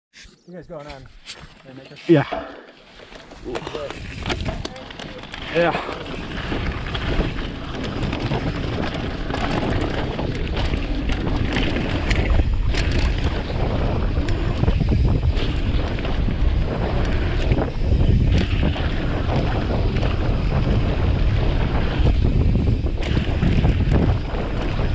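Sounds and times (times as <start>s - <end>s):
wind buffeting microphone: 3.0s - 24.9s.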